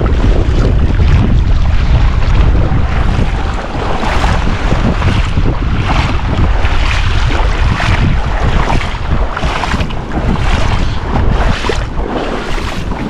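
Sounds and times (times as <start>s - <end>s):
waves and surf: 0.0s - 13.0s
wind buffeting microphone: 0.0s - 13.0s.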